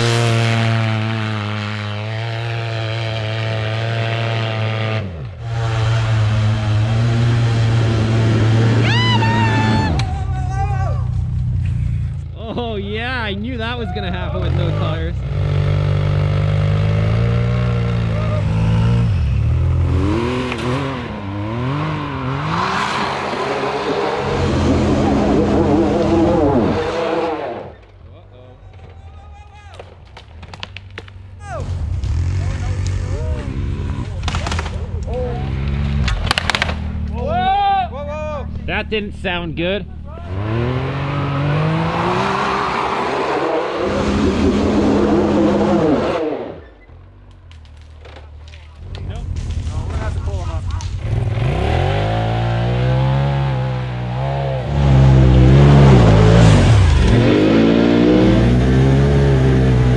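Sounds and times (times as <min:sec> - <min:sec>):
engine revving up and down: 0:00.0 - 0:10.0, 0:13.2 - 0:27.9, 0:31.5 - 0:37.1, 0:39.8 - 0:46.9, 0:49.0 - 0:59.9.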